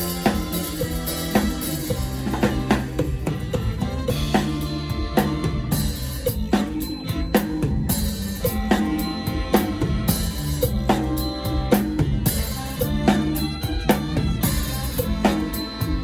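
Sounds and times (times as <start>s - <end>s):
band playing a groove: 0.0s - 16.0s
bass line: 0.0s - 16.0s.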